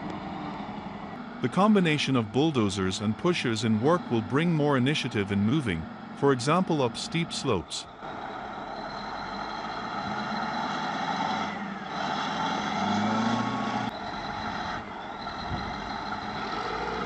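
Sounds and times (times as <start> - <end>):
heavy diesel engines under load: 0.0 - 17.0.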